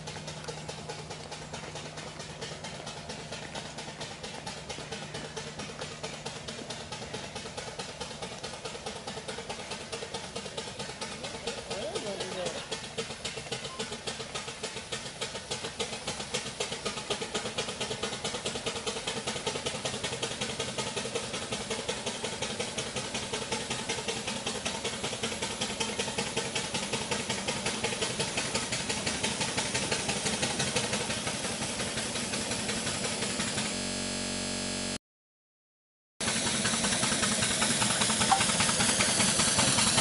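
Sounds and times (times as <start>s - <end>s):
steam engine exhaust chuffing: 0.0s - 35.0s, 36.2s - 40.0s.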